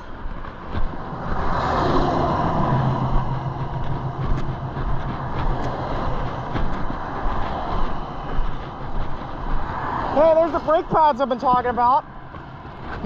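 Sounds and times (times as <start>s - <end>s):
vehicles passing: 0.0s - 13.0s.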